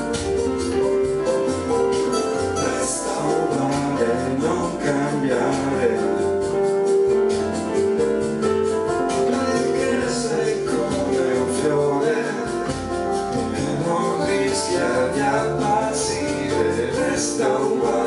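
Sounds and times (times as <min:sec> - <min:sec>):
piano-style keyboard chords: 0:00.0 - 0:18.0
synthesizer melody: 0:00.0 - 0:18.0
person singing pop song: 0:01.5 - 0:18.0.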